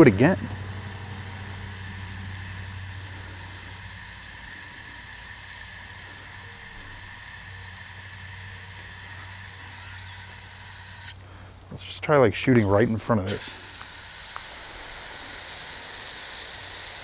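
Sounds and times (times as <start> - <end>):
hose nozzle spraying water: 0.0 - 11.4, 12.8 - 17.0
low steady hum: 0.0 - 17.0.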